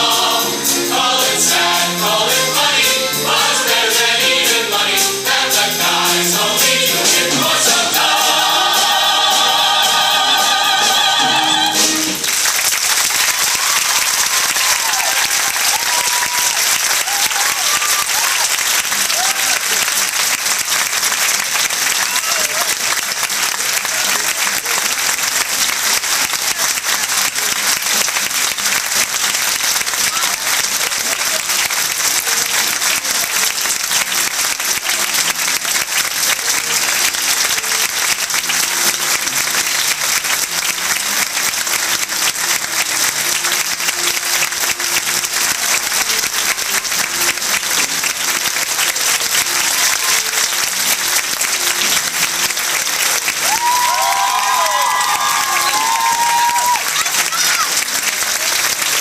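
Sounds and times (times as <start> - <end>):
audience applauding: 1.0 - 59.0.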